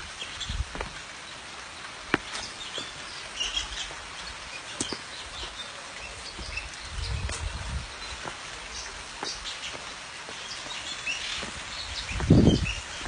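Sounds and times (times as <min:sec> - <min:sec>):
small birds chirping: 0:00.0 - 0:13.0
waterfall rushing: 0:00.0 - 0:13.0.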